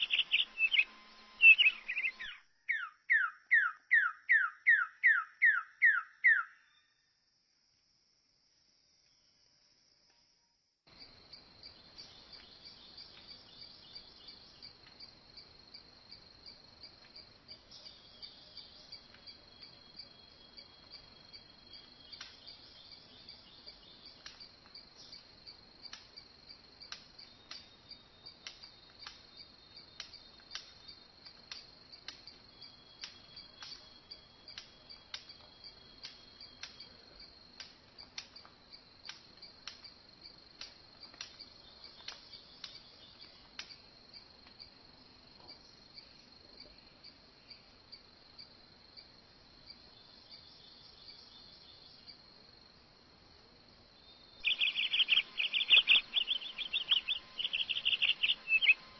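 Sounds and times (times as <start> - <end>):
insect chorus trilling and chirping: 0.0 - 7.6, 10.9 - 58.9.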